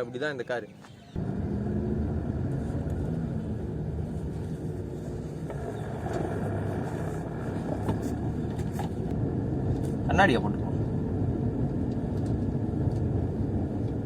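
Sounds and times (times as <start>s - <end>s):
road noise: 0.0s - 14.0s
car engine running: 1.2s - 14.0s.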